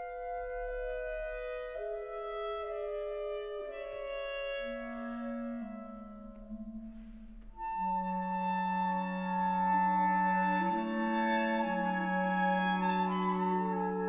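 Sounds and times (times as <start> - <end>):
clarinet quartet playing chords: 0.0 - 14.0.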